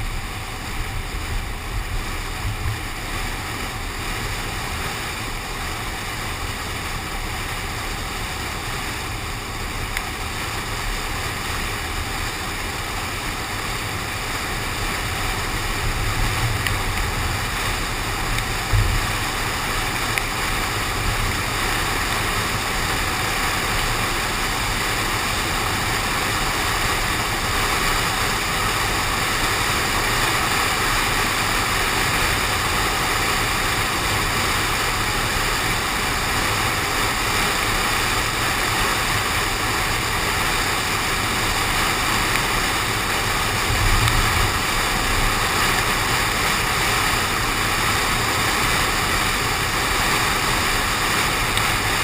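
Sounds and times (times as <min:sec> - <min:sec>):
rain on car body: 0:00.0 - 0:52.0
tyres on wet road: 0:00.0 - 0:52.0.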